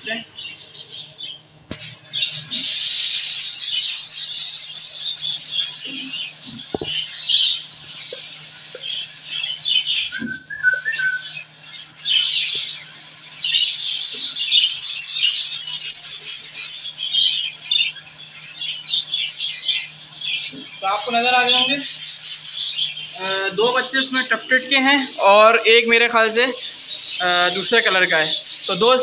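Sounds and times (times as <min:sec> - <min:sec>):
budgerigars chattering and squawking: 0:00.0 - 0:10.4, 0:11.2 - 0:29.0.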